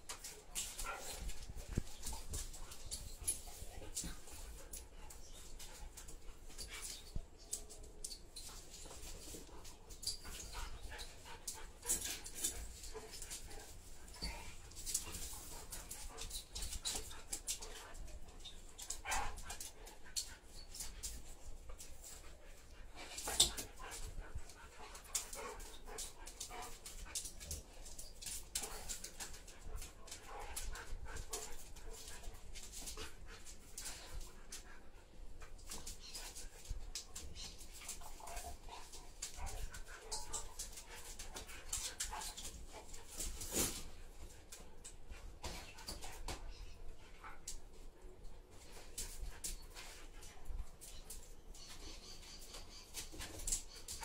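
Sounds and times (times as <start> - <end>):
dogs scuffling: 0.0 - 54.0.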